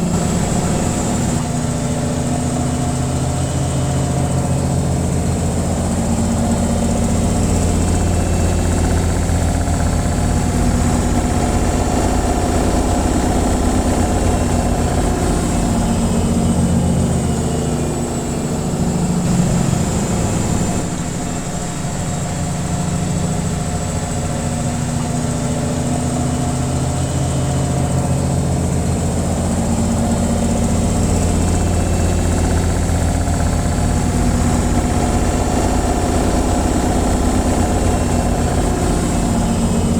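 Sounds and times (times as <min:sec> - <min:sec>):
washing machine spinning hum: 0:00.0 - 0:39.9.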